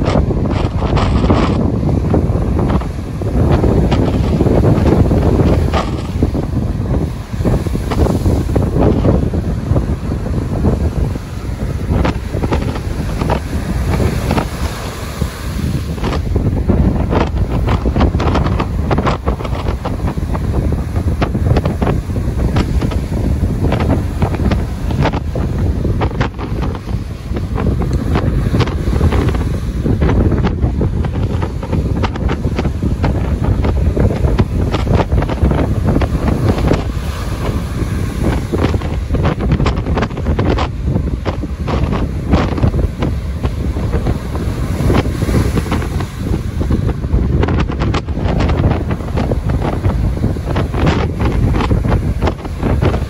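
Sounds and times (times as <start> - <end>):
ocean waves breaking: 0.0 - 53.0
wind buffeting microphone: 0.0 - 53.0.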